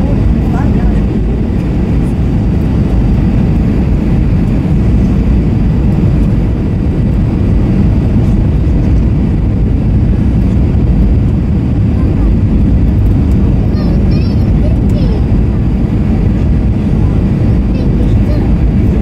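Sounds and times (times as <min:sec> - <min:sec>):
airflow noise: 0:00.0 - 0:19.0
jet engine noise: 0:00.0 - 0:19.0.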